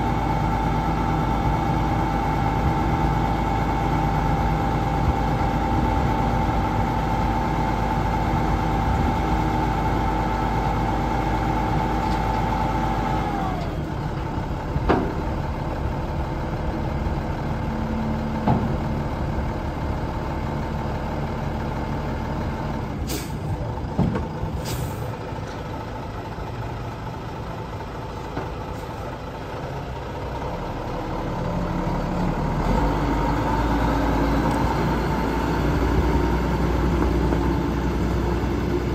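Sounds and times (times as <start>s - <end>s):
diesel truck engine: 0.0s - 38.9s.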